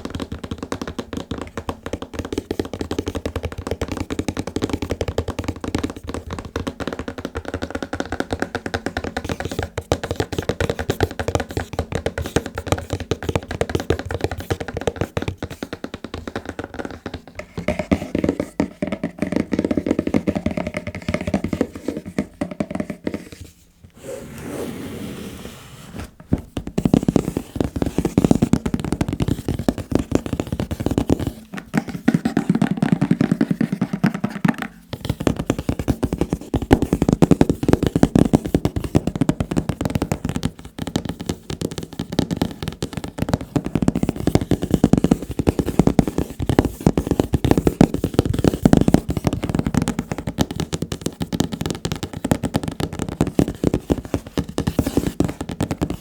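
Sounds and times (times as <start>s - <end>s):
fingernail tapping on objects: 0.0s - 23.5s, 26.2s - 56.0s.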